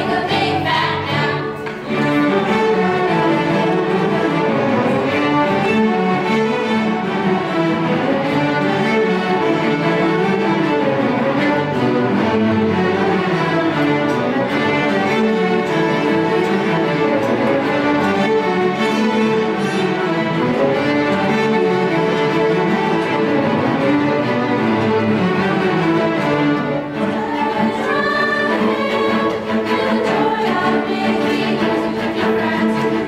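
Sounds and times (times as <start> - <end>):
string ensemble playing: 0.0 - 33.0.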